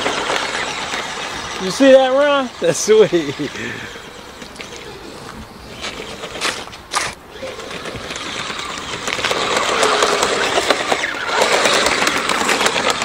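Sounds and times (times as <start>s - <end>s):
electric motor and tracks whirring: 0.0s - 13.0s.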